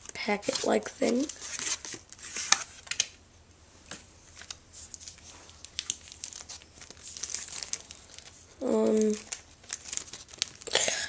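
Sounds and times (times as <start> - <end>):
paper and plastic packaging crinkling: 0.1 - 3.1, 4.3 - 11.0.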